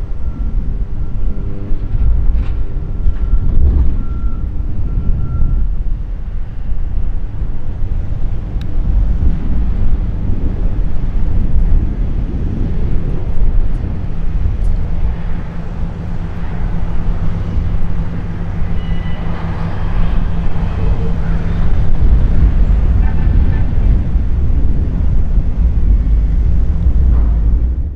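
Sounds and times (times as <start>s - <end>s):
distant propeller plane droning: 0.0s - 27.9s
wind rumble on microphone: 0.0s - 27.9s.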